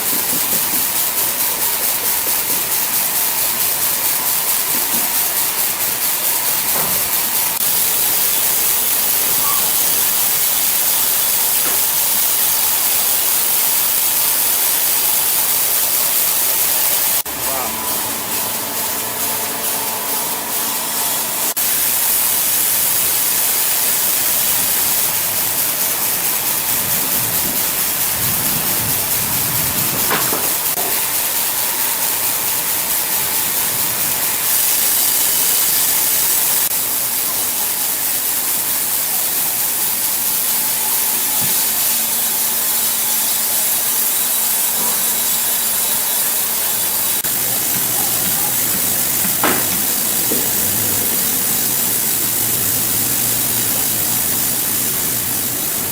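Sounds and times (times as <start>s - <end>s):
saw cutting through log: 0.0s - 55.9s.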